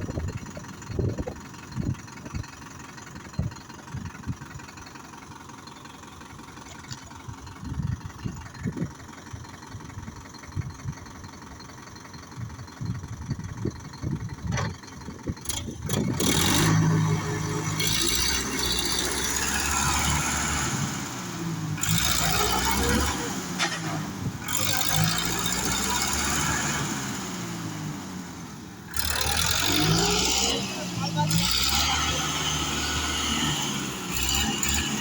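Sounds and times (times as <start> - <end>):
tractor diesel engine idling: 0.0 - 35.0.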